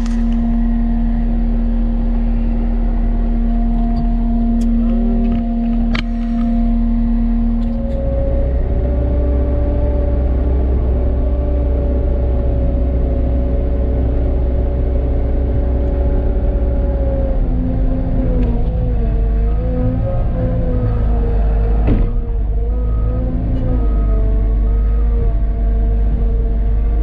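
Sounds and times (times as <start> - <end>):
loader engine rumble with whine: 0.0 - 27.0.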